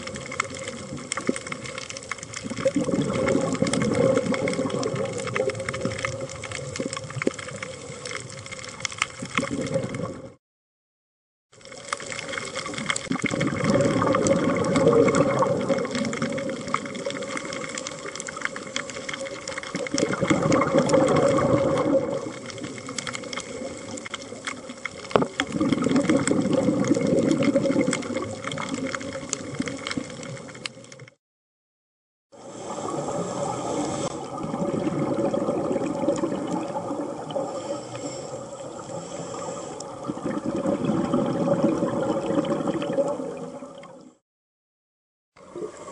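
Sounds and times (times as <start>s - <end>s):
underwater bubbles gurgling: 0.0s - 10.4s, 11.6s - 31.2s, 32.4s - 44.2s, 45.4s - 45.9s.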